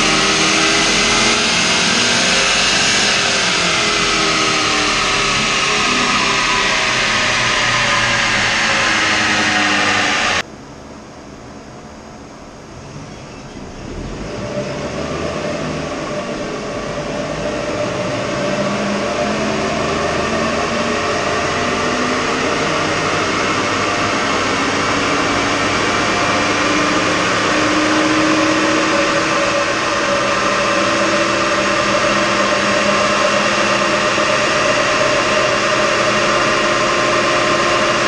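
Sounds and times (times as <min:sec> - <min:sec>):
engine and rollers droning: 0:00.0 - 0:38.0.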